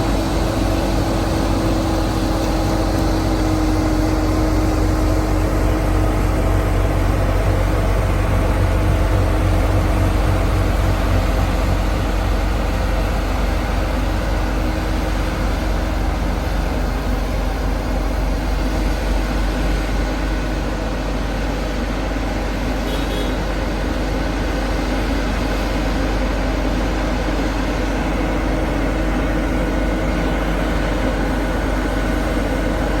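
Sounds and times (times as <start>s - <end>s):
engine humming steadily: 0.0s - 33.0s.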